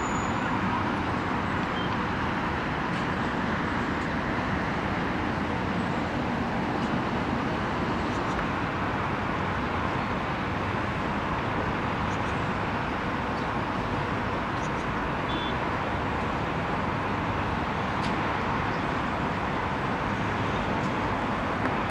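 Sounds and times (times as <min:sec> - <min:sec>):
city traffic noise: 0:00.0 - 0:21.9.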